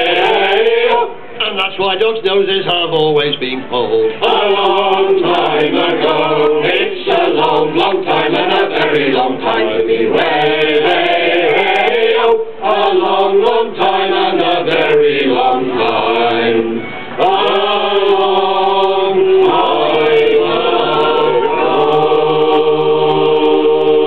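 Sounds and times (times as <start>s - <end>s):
choir singing unaccompanied: 0.0s - 1.2s, 4.2s - 24.0s.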